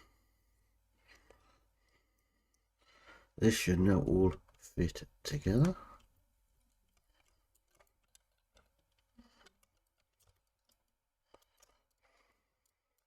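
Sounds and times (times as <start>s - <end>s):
faint clicks of small plastic parts: 0.0s - 3.4s, 4.1s - 13.0s.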